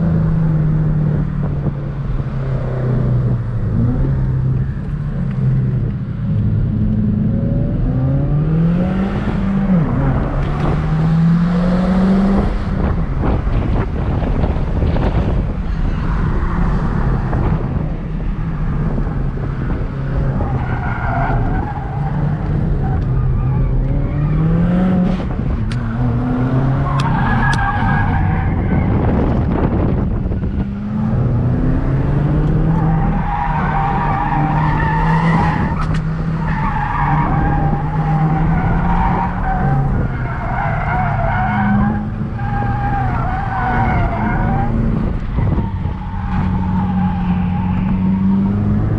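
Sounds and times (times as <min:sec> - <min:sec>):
car engine revving: 0:00.0 - 0:48.9
tyre and road noise: 0:00.0 - 0:48.9.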